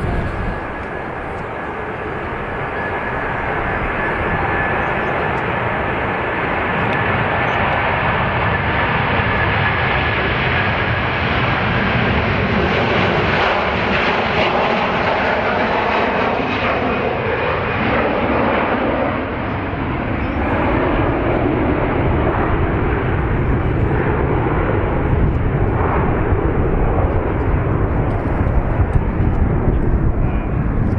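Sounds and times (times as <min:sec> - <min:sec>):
aircraft engine: 0:00.0 - 0:30.9.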